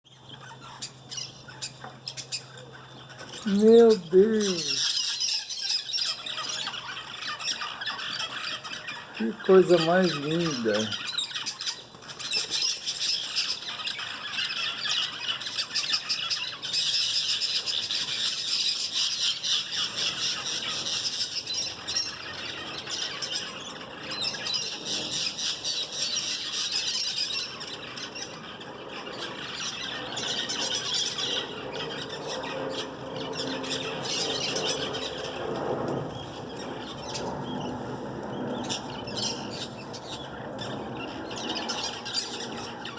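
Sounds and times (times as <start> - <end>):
flock of birds squawking: 0.1 - 42.9.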